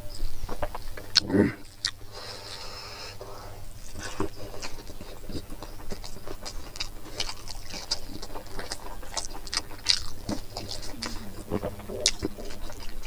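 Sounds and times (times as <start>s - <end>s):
man chewing with wet smacks: 0.0s - 13.0s.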